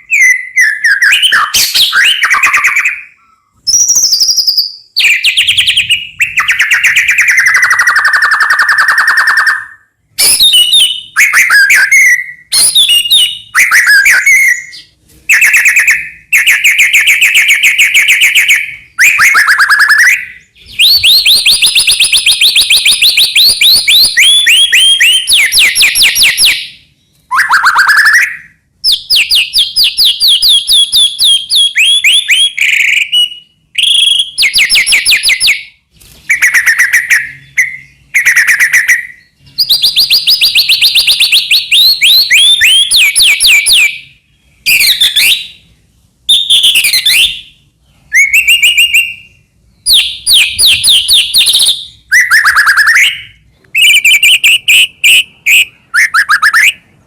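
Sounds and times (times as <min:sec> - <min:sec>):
songbird singing varied phrases: 0:00.0 - 0:45.7.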